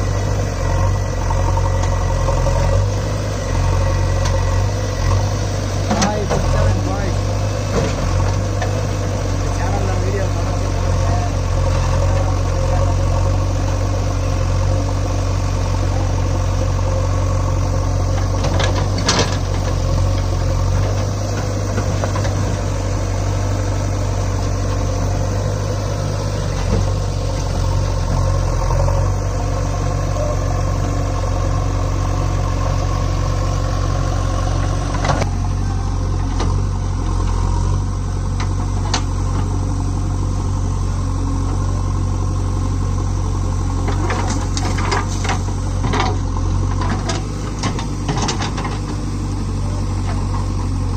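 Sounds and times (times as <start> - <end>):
diesel engines humming: 0.0 - 50.9.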